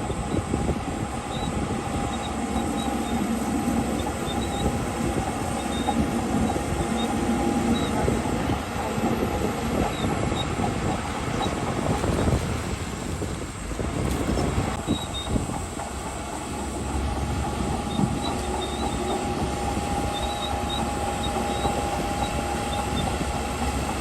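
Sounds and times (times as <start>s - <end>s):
diesel engine working under load: 0.0s - 24.0s
steel tracks clanking: 0.0s - 24.0s.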